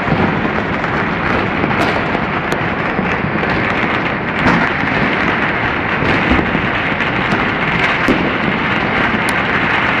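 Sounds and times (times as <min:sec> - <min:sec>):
distant firework bangs: 0:00.0 - 0:10.0
firecrackers crackling: 0:00.0 - 0:10.0.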